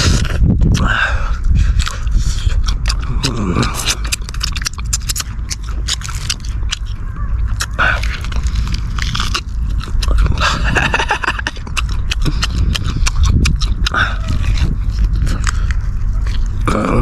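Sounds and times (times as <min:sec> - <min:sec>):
person chewing wetly: 0:00.0 - 0:17.0.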